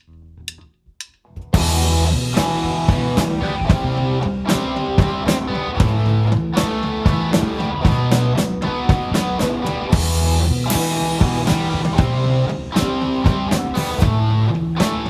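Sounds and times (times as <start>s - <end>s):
deep bass notes: 0.0s - 15.0s
drum hits: 1.4s - 15.0s
live rock band playing: 1.5s - 15.0s.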